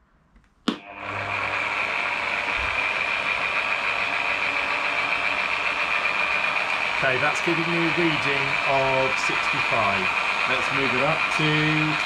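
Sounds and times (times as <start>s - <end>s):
lathe motor whining: 0.8s - 12.0s.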